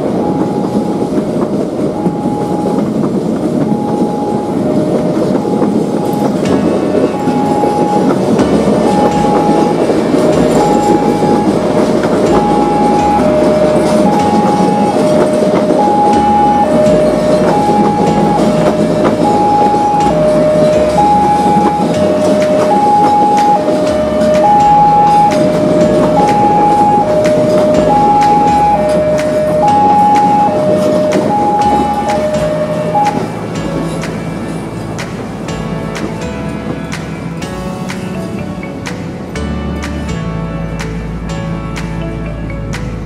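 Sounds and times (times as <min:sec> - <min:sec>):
level crossing alarm tones: 0:00.0 - 0:34.7
wheels clattering over rail joints: 0:00.0 - 0:43.0.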